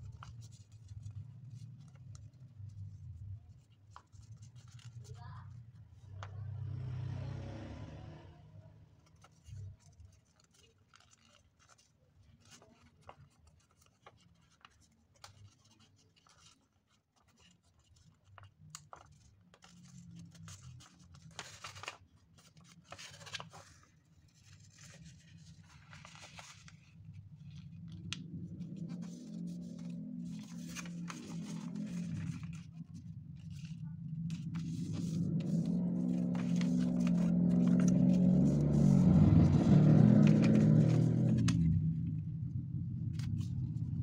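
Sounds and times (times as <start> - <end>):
paper rustling and crinkling: 0.0 - 5.5, 9.0 - 42.1, 43.1 - 44.0.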